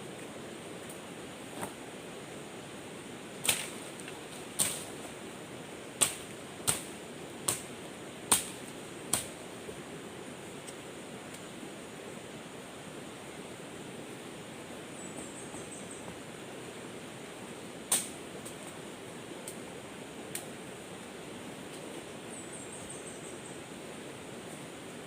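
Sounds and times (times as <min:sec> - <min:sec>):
forest ambience hiss: 0:00.0 - 0:25.0.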